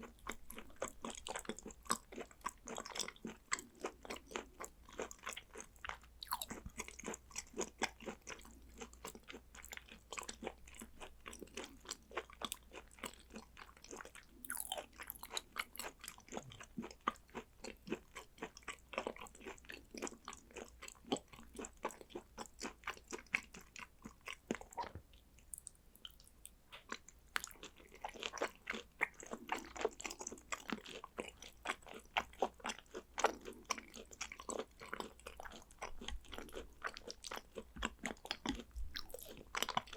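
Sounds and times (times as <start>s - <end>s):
wet chewing mouth clicks: 0.0s - 39.9s.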